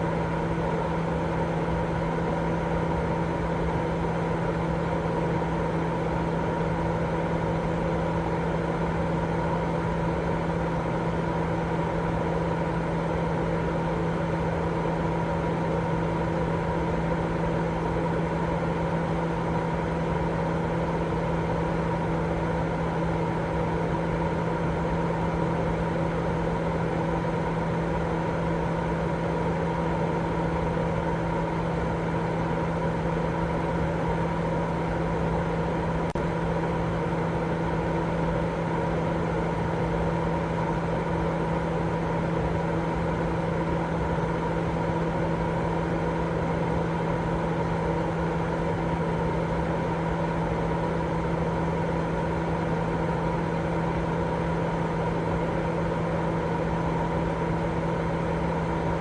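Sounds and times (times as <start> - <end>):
low machine-like hum: 0.0 - 59.0.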